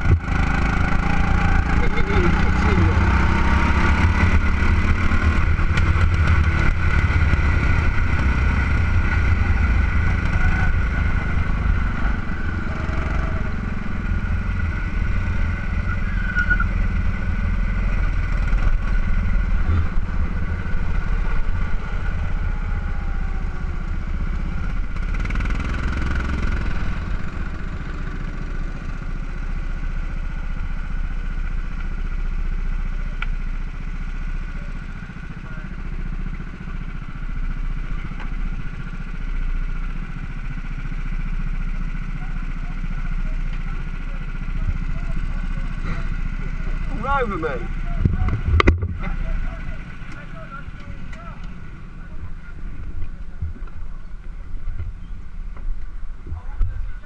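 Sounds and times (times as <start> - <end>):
track noise: 0.0 - 30.2, 40.6 - 57.0
go-kart engine running: 0.0 - 57.0
wind: 0.0 - 57.0.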